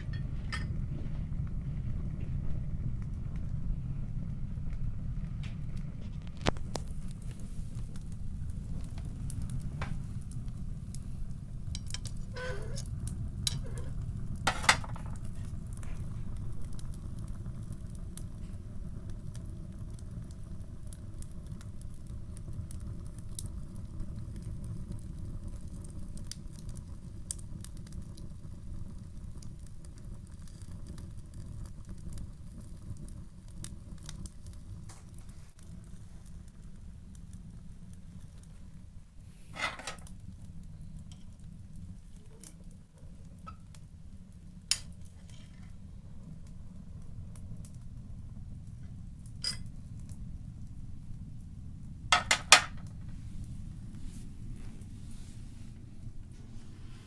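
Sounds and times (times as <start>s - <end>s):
fire crackling and popping: 0.0s - 57.0s
stove draft rumbling: 0.0s - 57.0s
fire snapping loudly: 1.4s - 50.4s.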